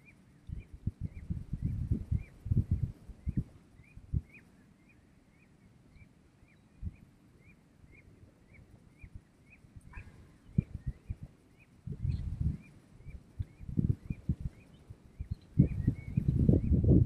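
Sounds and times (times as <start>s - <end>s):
bird calling: 0.0s - 16.8s.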